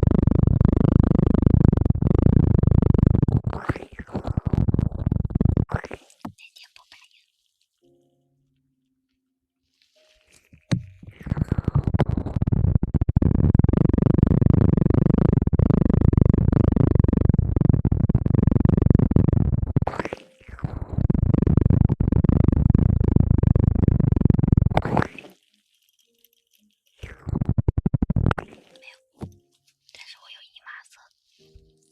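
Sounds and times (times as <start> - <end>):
rubbing and scratching on microphone: 0.0 - 7.6, 9.8 - 31.9.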